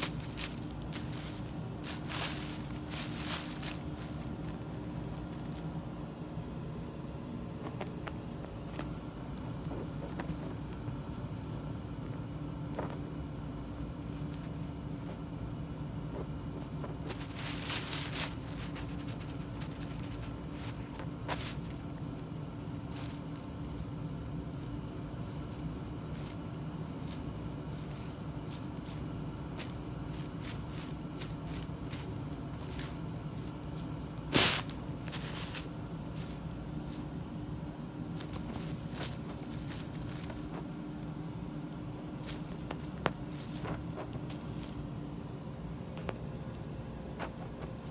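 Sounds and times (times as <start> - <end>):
tissue paper crackling: 0.0 - 15.3, 16.1 - 37.4, 38.0 - 47.9
low room hum: 0.0 - 47.9.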